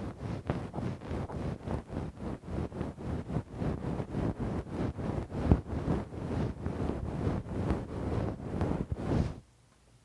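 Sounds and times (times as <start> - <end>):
rhythmic rubbing on microphone: 0.0 - 9.4.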